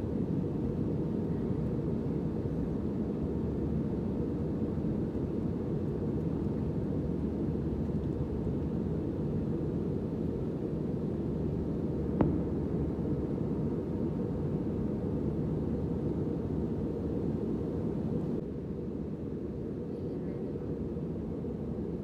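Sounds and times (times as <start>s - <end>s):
airliner cabin engine noise: 0.0s - 22.0s
faint steady whine: 0.0s - 22.0s.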